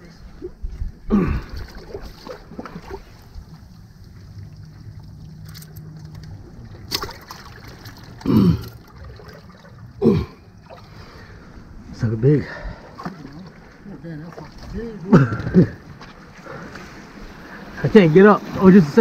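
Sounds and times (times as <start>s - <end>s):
low steady hum: 0.0s - 19.0s
water sloshing among rocks: 0.0s - 19.0s.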